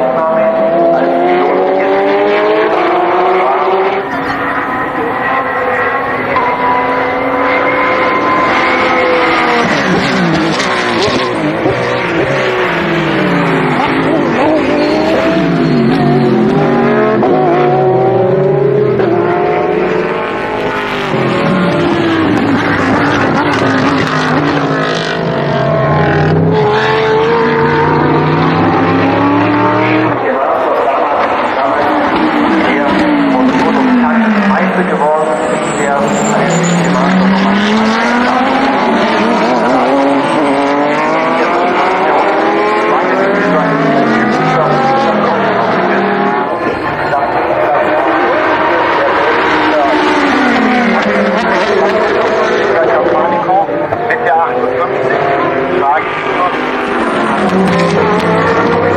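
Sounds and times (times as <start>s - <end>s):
race car engines passing: 0.0s - 58.9s.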